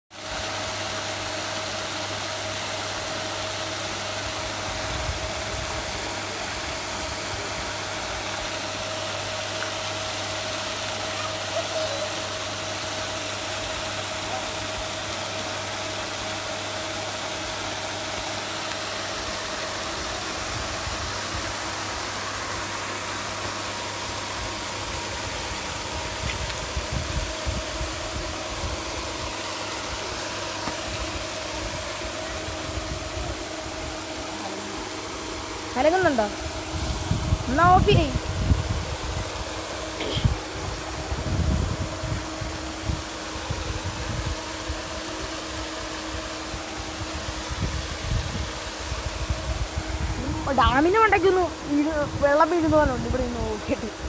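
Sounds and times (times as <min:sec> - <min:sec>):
water splashing hiss: 0:00.1 - 0:54.0
motor hum: 0:00.2 - 0:54.0.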